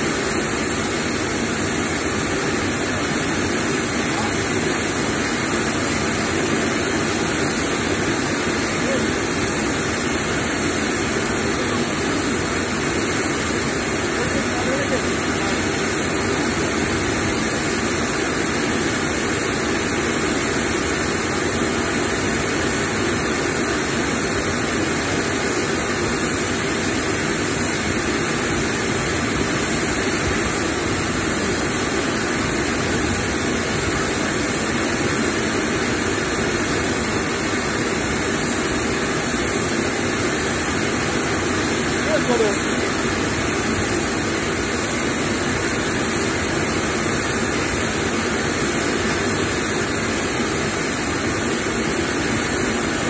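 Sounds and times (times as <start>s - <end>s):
jet turbine running: 0.0s - 53.0s.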